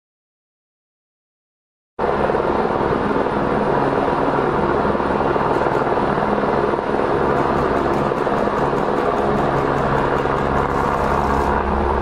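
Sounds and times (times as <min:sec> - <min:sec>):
helicopter hovering: 0:02.0 - 0:12.0.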